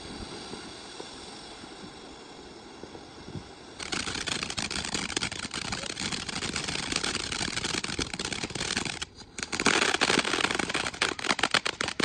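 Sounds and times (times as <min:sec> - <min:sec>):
firework fountain crackling: 0:00.0 - 0:12.0.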